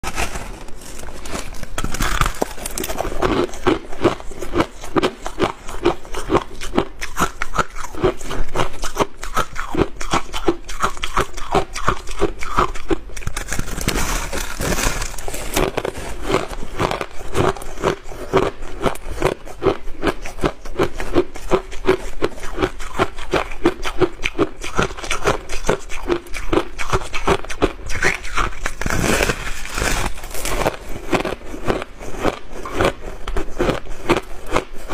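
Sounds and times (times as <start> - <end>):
ice being chewed: 0.1 - 34.9.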